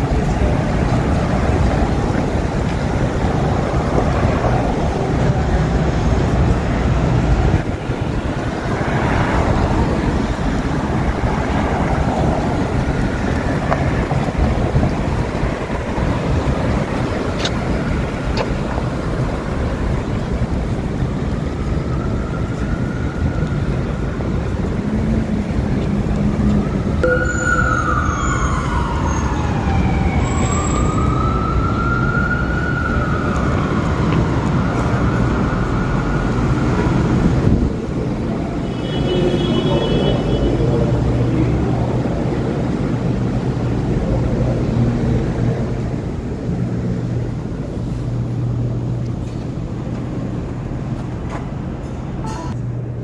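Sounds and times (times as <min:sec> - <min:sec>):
emergency vehicle siren wailing: 0:00.0 - 0:46.5
city street traffic: 0:00.0 - 0:53.0.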